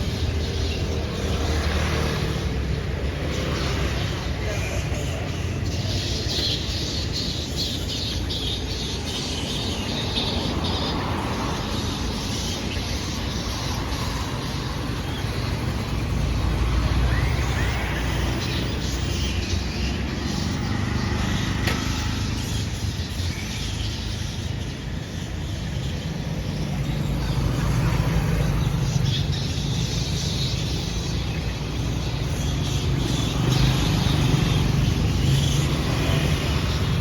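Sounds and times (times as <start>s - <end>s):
road traffic rumble: 0.0s - 37.0s
small birds chirping: 0.0s - 37.0s.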